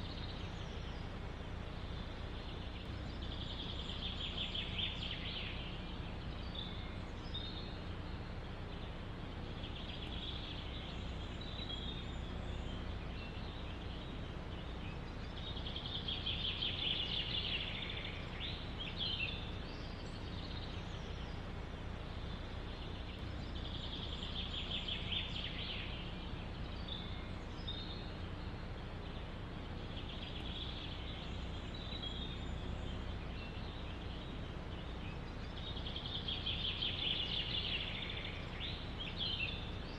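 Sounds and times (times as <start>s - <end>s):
bird chirps: 0.0s - 39.9s
forest wind: 0.0s - 39.9s
songbird singing trilled phrases: 0.0s - 39.9s.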